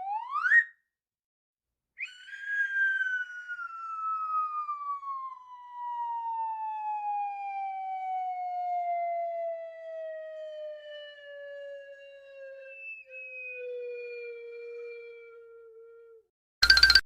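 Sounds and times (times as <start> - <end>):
descending whistling siren tone: 0.0 - 0.8, 2.0 - 17.0.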